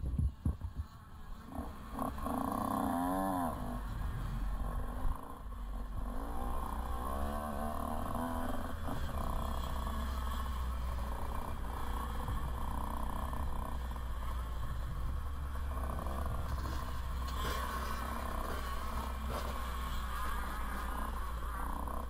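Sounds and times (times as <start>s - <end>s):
motorbike engine at low revs: 0.0s - 22.0s.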